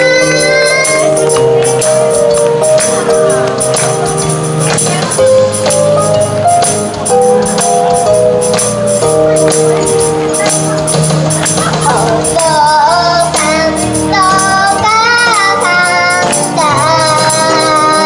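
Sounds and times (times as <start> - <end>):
pop backing music: 0.0 - 18.0.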